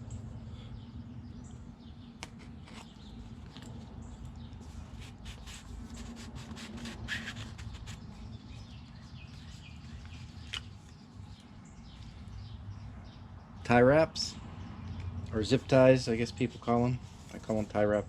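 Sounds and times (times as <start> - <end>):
bird chirping: 0.0 - 15.8
steady low hum: 0.0 - 18.0.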